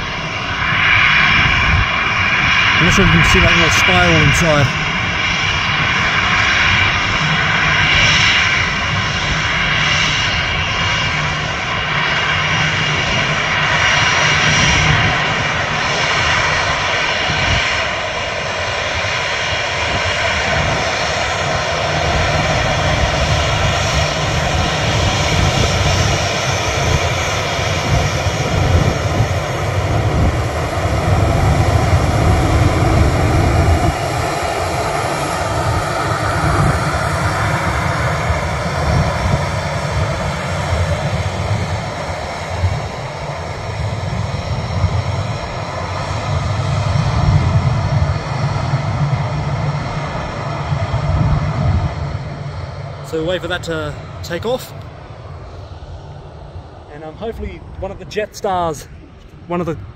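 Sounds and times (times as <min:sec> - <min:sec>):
jet engines at takeoff thrust: 0:00.0 - 0:59.9.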